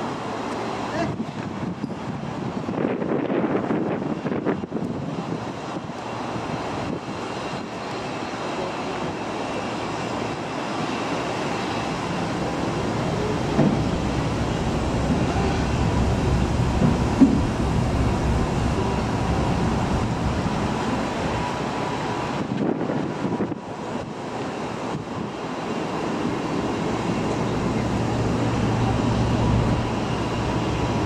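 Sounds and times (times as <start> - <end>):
wind on microphone: 0.0 - 31.0.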